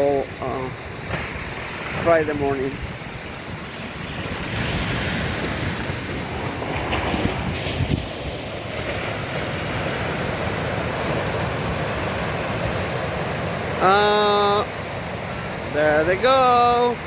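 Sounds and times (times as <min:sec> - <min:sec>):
wind buffeting microphone: 0:00.0 - 0:13.8
ocean surf breaking: 0:00.0 - 0:17.0.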